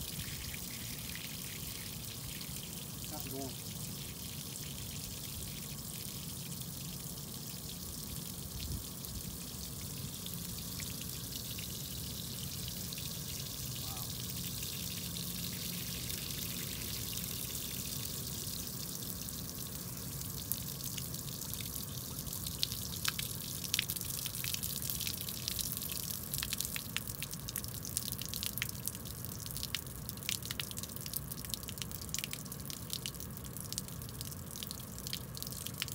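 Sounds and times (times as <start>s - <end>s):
water drips and splats: 0.0s - 35.9s
water trickling onto wet pavement: 0.0s - 35.9s.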